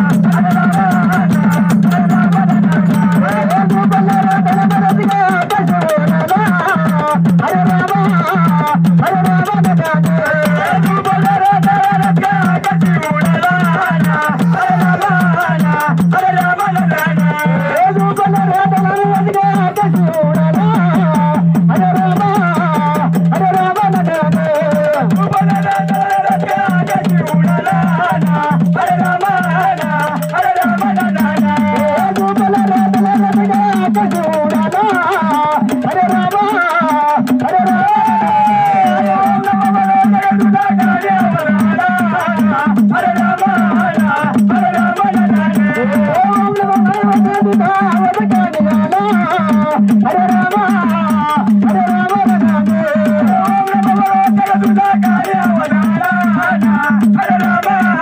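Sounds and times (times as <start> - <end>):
drums beating fast rhythm: 0.0 - 58.0.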